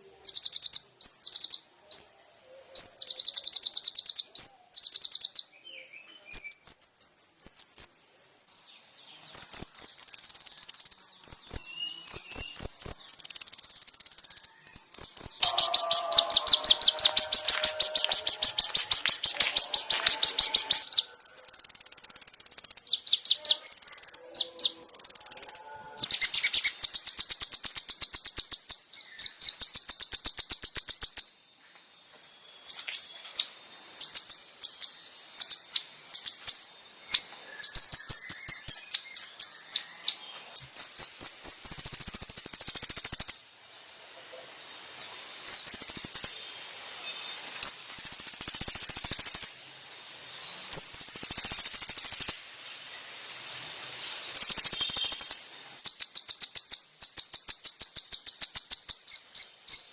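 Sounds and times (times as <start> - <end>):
bird song with fast trills: 0.0 - 44.1, 45.1 - 59.9.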